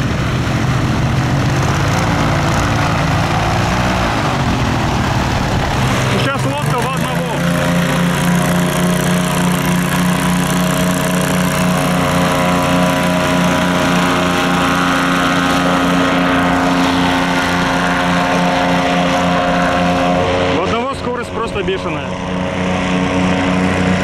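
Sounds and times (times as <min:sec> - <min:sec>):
airboat engine and propeller running: 0:00.0 - 0:24.0.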